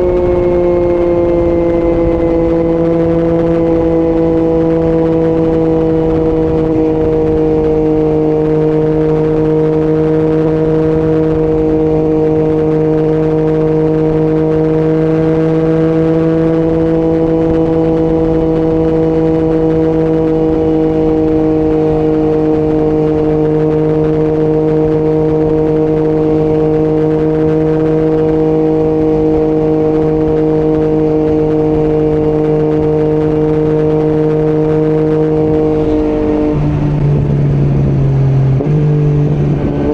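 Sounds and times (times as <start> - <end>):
low wind rumble: 0.0 - 39.9
motorcycle engine cruising: 0.0 - 39.9.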